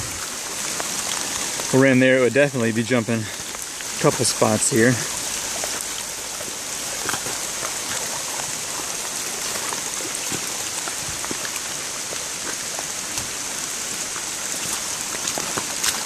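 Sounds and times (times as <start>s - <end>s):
creek rushing: 0.0s - 16.0s
water running down flume: 0.0s - 16.0s.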